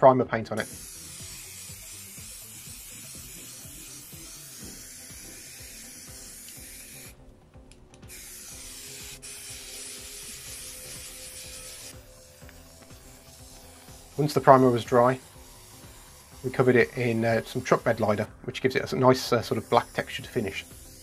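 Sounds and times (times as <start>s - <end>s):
background music: 0.0s - 21.0s
aerosol spray hissing: 0.5s - 21.0s.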